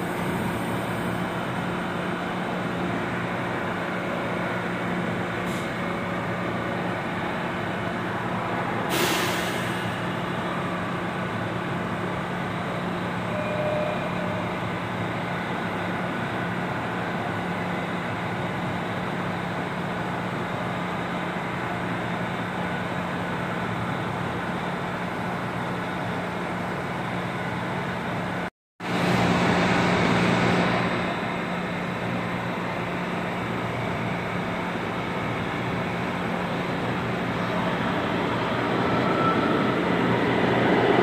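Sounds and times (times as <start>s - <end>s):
subway train humming: 0.0s - 41.0s
train approaching rumble: 0.0s - 41.0s.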